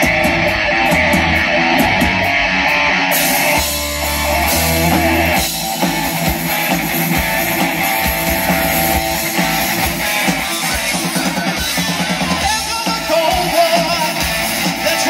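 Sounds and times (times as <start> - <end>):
live rock band playing: 0.0 - 15.0
wavering lead guitar line: 0.0 - 15.0.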